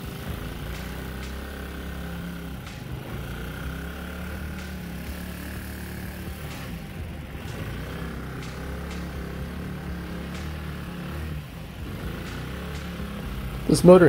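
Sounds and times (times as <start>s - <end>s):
boat motor running steadily: 0.0s - 14.0s.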